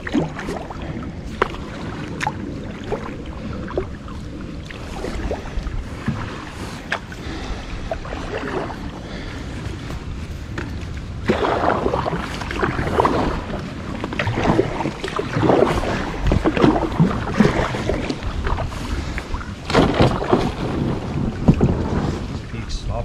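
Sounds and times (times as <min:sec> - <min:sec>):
paddle splashes: 0:00.0 - 0:23.0
water sloshing at hull: 0:00.0 - 0:23.0
wind buffeting microphone: 0:00.0 - 0:23.0.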